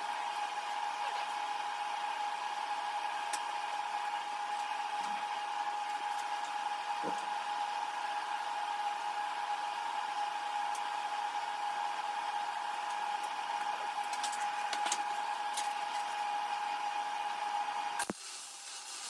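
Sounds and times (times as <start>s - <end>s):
fan motor whirring hum: 0.0s - 18.6s.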